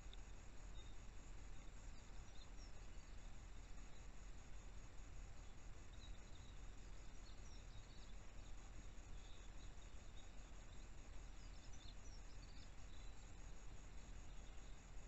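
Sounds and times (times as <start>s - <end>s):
distant small birds chirping: 0.0s - 15.0s
microphone hiss and hum: 0.0s - 15.0s.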